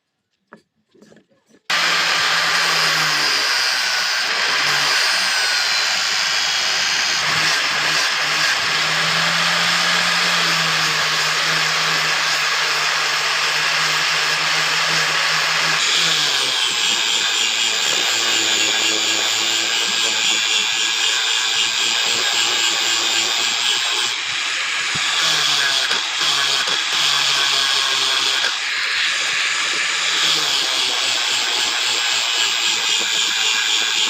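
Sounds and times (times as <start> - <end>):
power tool motor humming: 1.7 - 34.0.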